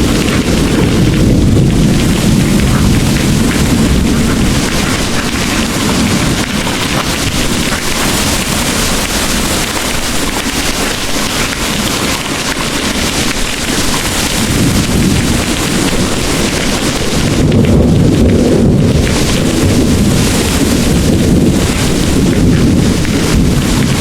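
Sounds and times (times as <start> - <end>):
distant thunder rumbling: 0.0 - 24.0
heavy rain pouring: 0.0 - 24.0.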